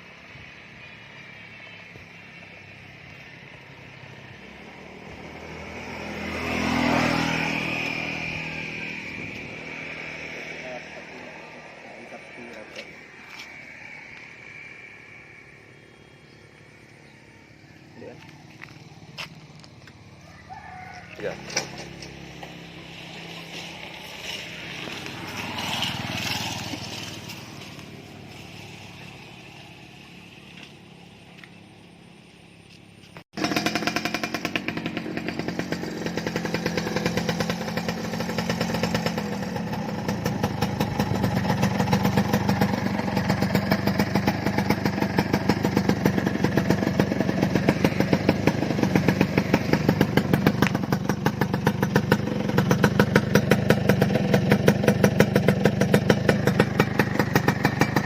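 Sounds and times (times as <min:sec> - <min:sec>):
two-stroke motorcycle engine: 0:00.2 - 0:58.0.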